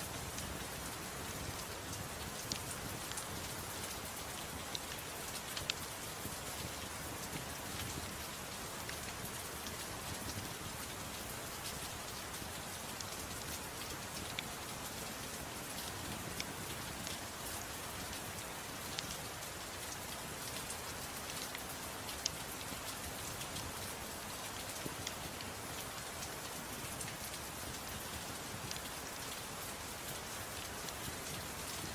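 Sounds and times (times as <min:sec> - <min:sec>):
soft rain hiss: 0:00.0 - 0:31.9.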